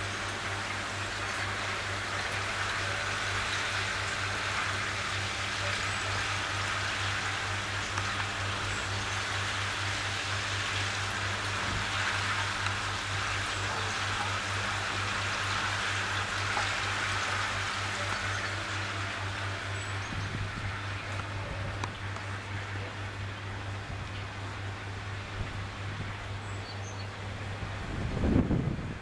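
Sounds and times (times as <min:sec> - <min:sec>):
water splashing and trickling: 0:00.0 - 0:26.5
steady low hum: 0:00.0 - 0:29.0.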